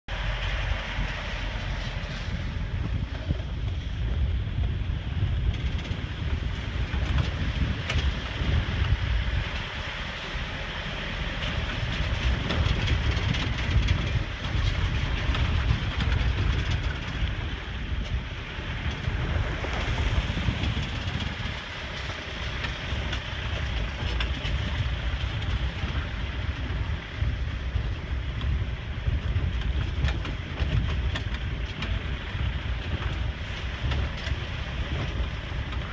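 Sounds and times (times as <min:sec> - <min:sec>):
moving truck: 0:00.1 - 0:35.9
wind buffeting microphone: 0:00.1 - 0:35.9.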